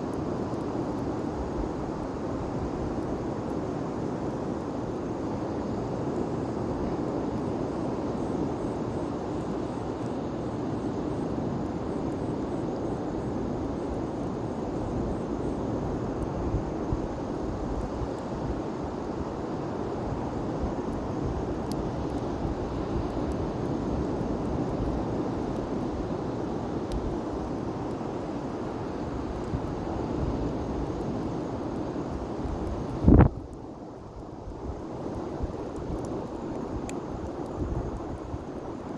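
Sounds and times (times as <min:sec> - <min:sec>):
bonfire roaring: 0:00.0 - 0:38.9
fire crackles: 0:00.0 - 0:38.9.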